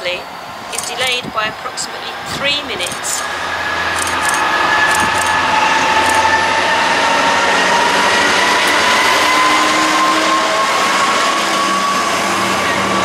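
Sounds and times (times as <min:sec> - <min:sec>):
diesel locomotive passing: 0:00.0 - 0:13.0.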